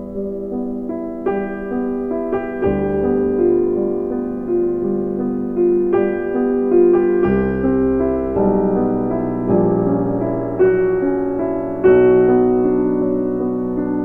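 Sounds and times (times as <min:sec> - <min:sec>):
soft piano melody: 0:00.0 - 0:14.0.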